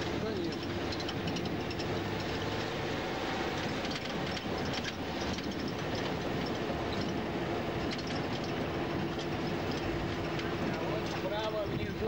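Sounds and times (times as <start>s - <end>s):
bus body rattling: 0.0s - 12.0s
bus engine drone: 0.0s - 12.0s
road rumble: 0.0s - 12.0s.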